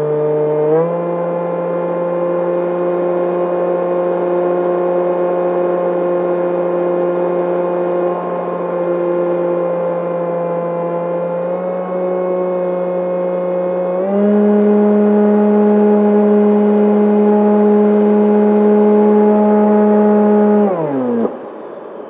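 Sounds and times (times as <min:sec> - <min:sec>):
electric motor and propeller whine: 0:00.0 - 0:22.0.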